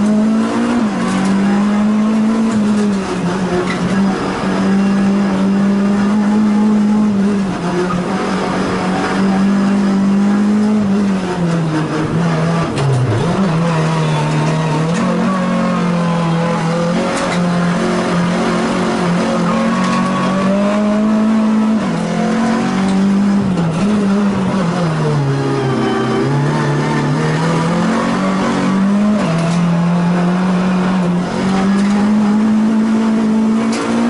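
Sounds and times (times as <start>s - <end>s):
race car engine revving: 0.0s - 34.0s.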